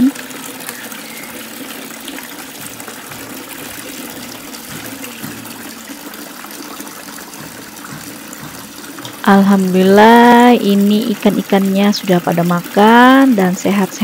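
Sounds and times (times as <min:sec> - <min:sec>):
water pouring into pond: 0:00.0 - 0:14.0.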